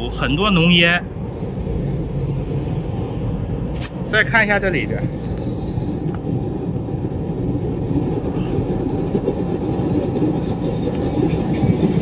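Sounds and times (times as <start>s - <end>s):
low roar of flame jets: 0.1s - 12.0s.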